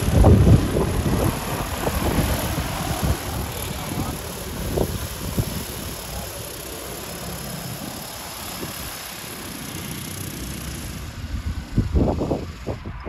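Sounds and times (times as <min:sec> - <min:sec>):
drone rotors whirring: 0:00.0 - 0:13.0.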